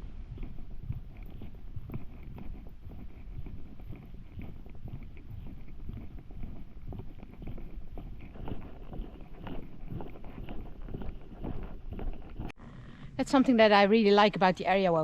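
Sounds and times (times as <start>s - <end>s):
footsteps on dirt path: 0.0s - 12.5s.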